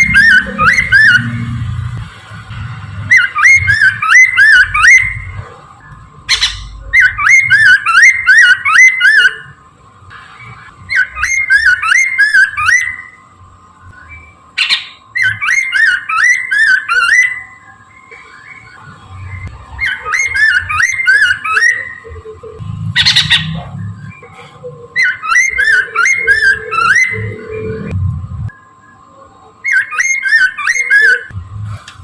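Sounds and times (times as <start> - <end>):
bird whistling song: 0.0 - 1.5, 3.1 - 9.6, 10.9 - 24.3, 24.9 - 27.9, 28.5 - 31.3.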